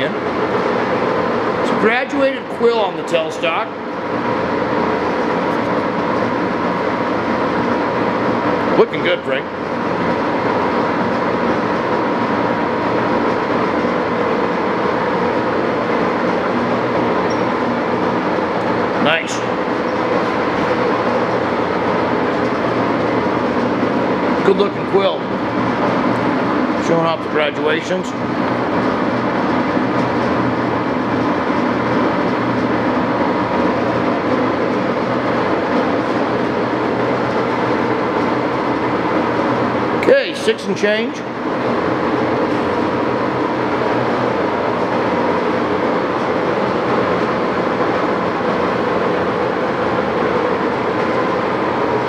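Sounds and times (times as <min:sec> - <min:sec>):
lathe running: 0:00.0 - 0:52.0.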